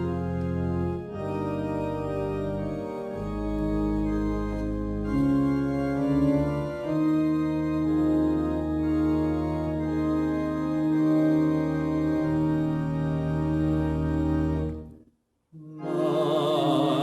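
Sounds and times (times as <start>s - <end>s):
organ playing slow chords: 0.0s - 15.0s, 15.6s - 17.0s.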